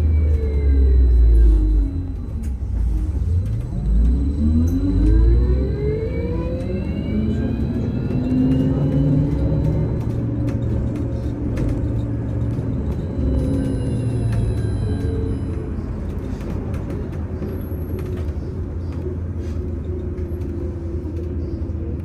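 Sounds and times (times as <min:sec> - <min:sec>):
road rumble: 0:00.0 - 0:22.0.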